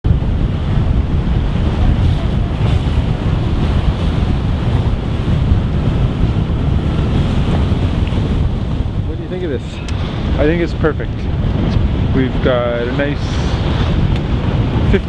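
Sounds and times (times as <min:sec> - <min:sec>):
rushing sea water: 0:00.0 - 0:15.0
wind rumbling on microphone: 0:00.0 - 0:15.0.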